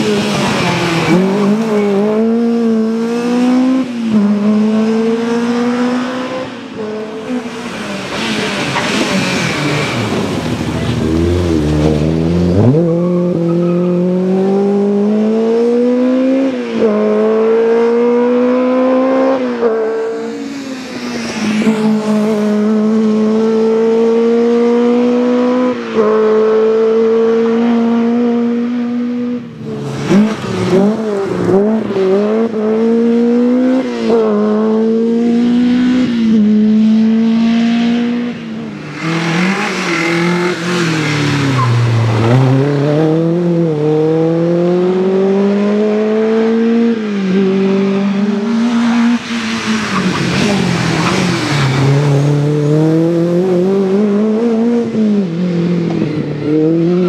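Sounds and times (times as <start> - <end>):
rally car engine revving hard: 0.0 - 20.2, 21.6 - 57.0.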